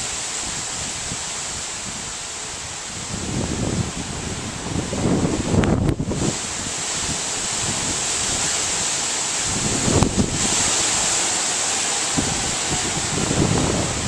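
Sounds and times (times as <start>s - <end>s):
hurricane wind and rain hissing: 0.0s - 14.0s
wind gusts rumbling on microphone: 0.0s - 14.0s.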